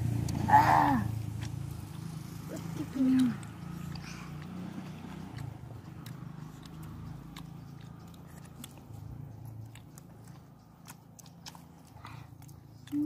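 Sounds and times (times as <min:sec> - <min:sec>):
person chewing food: 0:01.1 - 0:13.0
mouth clicks: 0:02.5 - 0:13.0.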